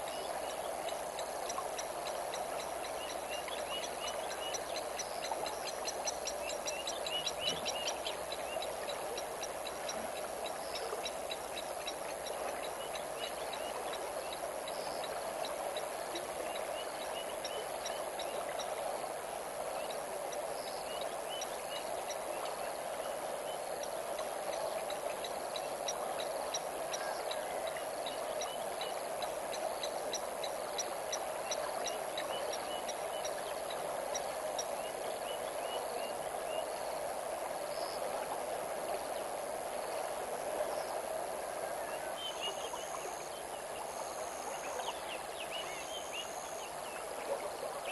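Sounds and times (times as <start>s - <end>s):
insects chirping: 0.0s - 47.9s
river water flowing: 0.0s - 47.9s.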